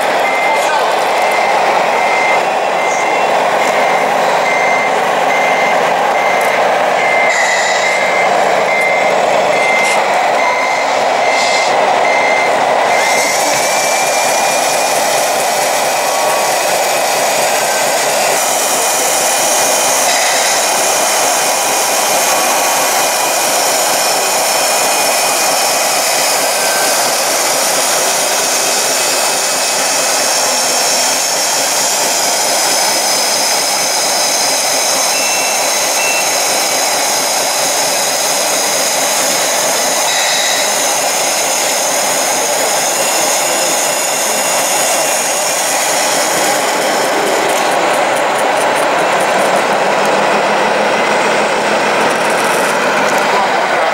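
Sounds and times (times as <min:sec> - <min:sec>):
electric hydraulic pump humming: 0:00.0 - 0:53.9.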